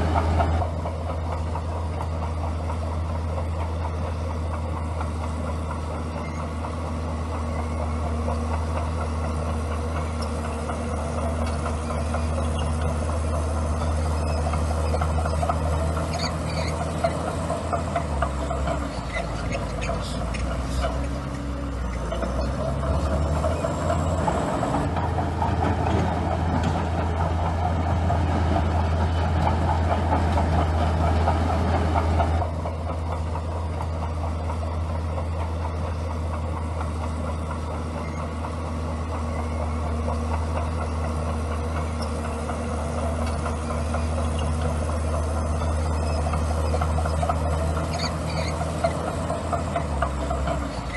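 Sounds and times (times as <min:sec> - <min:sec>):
bulldozer diesel engine: 0:00.0 - 0:50.9.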